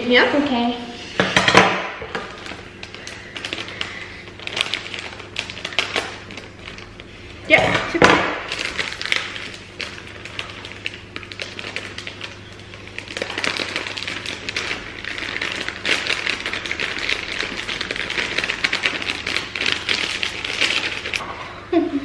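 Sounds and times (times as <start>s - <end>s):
plastic bag crinkling: 2.0s - 7.3s, 7.9s - 21.2s.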